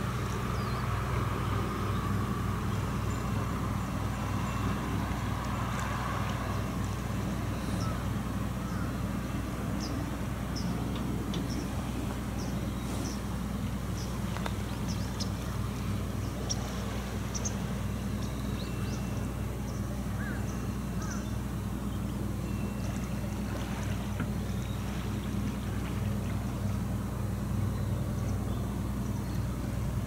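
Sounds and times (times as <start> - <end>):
low engine hum: 0.0 - 30.0.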